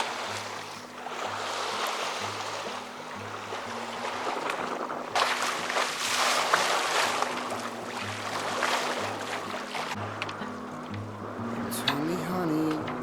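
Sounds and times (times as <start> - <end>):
soft background music: 0.0 - 13.0
water rushing along a hull: 0.0 - 13.0.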